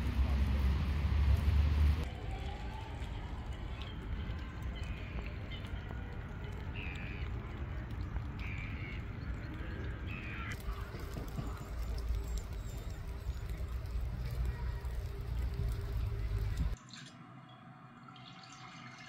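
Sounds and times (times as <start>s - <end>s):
low outdoor rumble: 0.0s - 16.8s.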